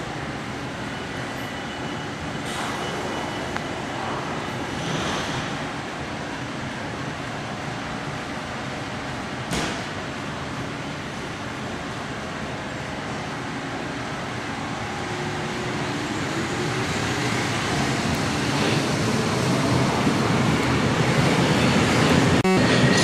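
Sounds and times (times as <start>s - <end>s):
metro train accelerating: 0.0s - 23.0s.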